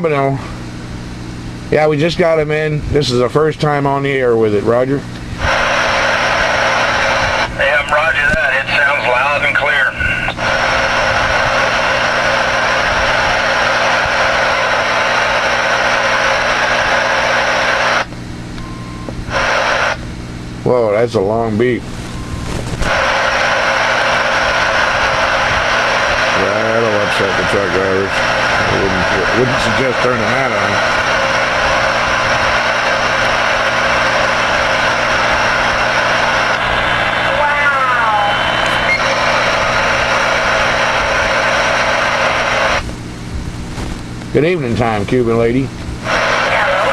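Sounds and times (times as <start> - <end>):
radio static hiss: 0.0 - 18.2, 19.1 - 46.9
low steady hum: 0.0 - 46.9.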